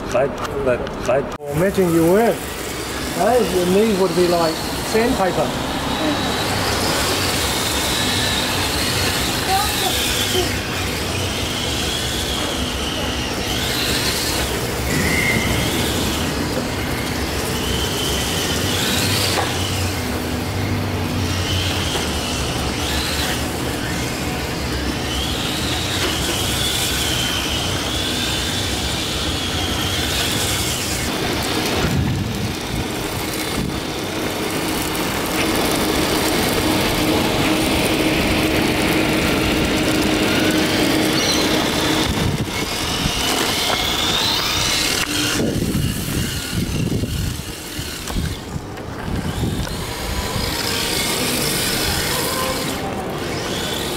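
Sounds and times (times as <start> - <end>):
electric motor whining: 1.4 - 53.9.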